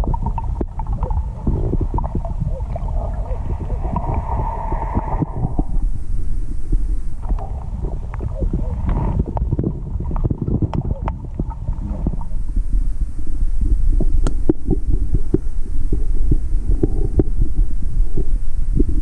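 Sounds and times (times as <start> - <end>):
muffled underwater water rumble: 0.0 - 19.0.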